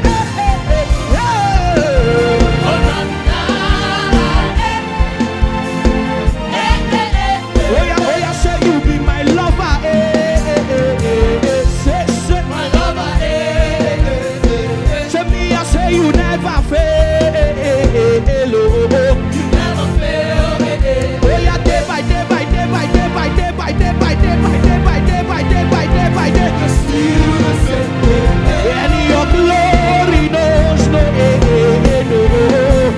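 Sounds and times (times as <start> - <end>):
live gospel band playing: 0.0 - 32.9
person singing: 0.0 - 32.9.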